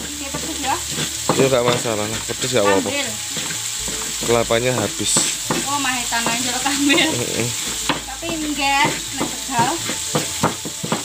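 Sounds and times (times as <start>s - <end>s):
stone pestle grinding in mortar: 0.0s - 11.0s
vegetables sizzling in a wok: 0.0s - 11.0s.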